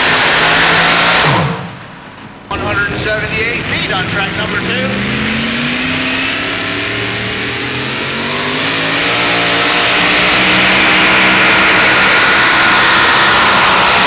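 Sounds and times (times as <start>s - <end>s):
truck engine revving under load: 0.0s - 14.0s.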